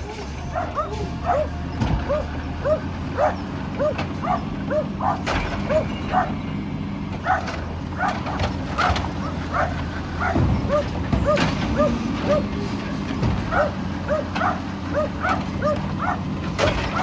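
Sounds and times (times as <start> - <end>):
low engine hum: 0.0 - 17.0
dog yapping: 0.5 - 6.4, 7.2 - 12.6, 13.4 - 17.0.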